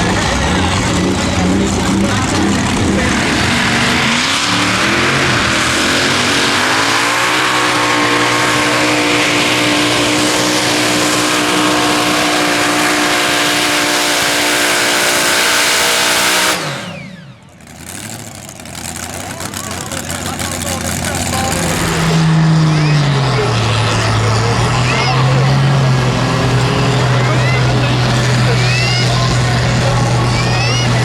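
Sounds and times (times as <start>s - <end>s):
tractor engine at full throttle: 0.0s - 31.0s.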